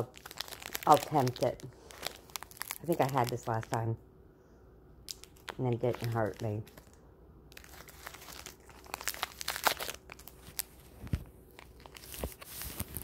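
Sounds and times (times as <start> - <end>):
snack wrapper crinkling and tearing: 0.0 - 3.9, 5.0 - 13.0.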